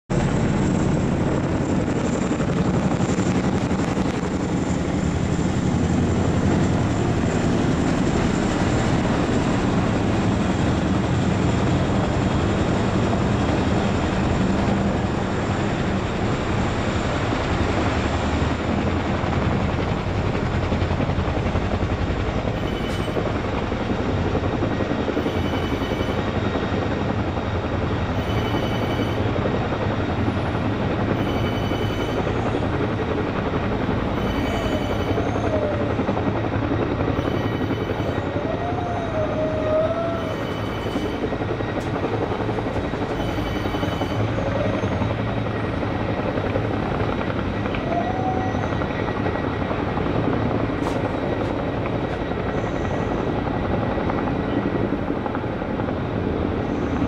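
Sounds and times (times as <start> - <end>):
helicopter rotors chopping: 0.1 - 57.0.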